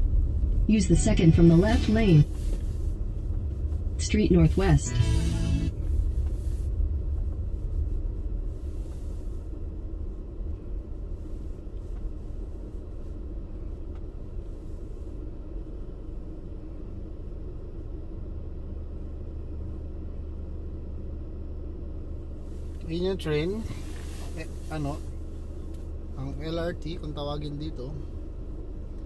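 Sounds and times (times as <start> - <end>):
car rumble from inside cabin: 0.0 - 29.0.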